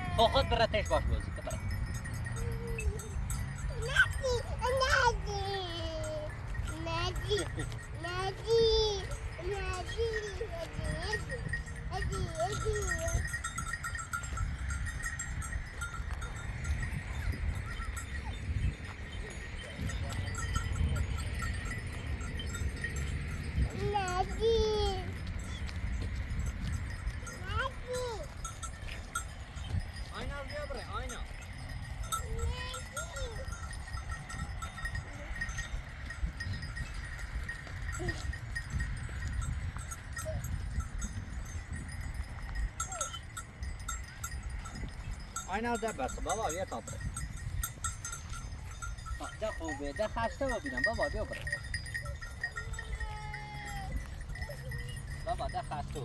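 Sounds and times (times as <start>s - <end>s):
faint bell-like tinkling: 0.0s - 56.0s
wind rumbling on microphone: 0.0s - 56.0s.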